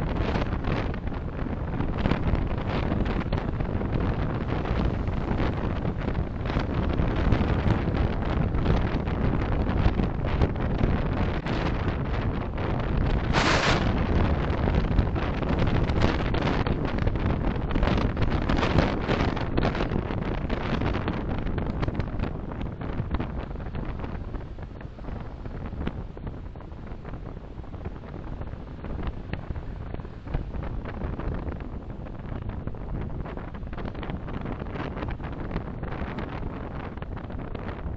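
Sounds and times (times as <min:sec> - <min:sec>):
car road and wind noise: 0:00.0 - 0:37.9.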